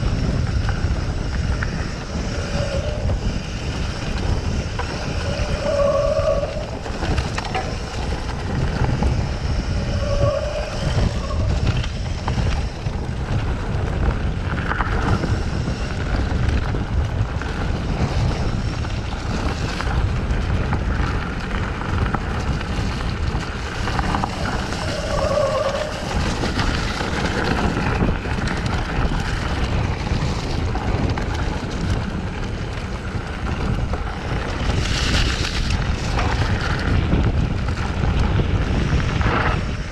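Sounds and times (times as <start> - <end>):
bike rattling over bumps: 0.0 - 39.9
bike tyres on dirt trail: 0.0 - 39.9
wind buffeting microphone: 0.0 - 39.9.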